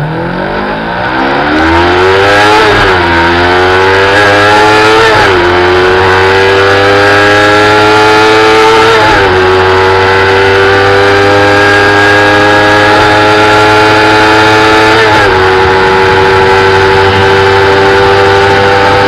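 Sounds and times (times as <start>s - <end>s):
motorcycle engine running hard: 1.3s - 19.0s.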